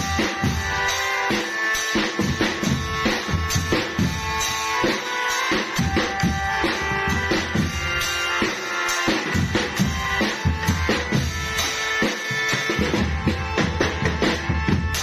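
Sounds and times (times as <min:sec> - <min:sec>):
drums playing: 0:00.0 - 0:15.0
held melody line: 0:00.0 - 0:15.0.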